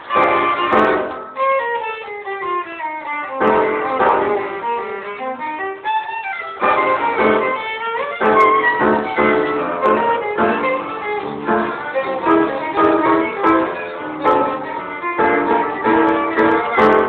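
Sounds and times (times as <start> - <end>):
blues violin: 0.0 - 17.0
piano chords: 0.0 - 17.0.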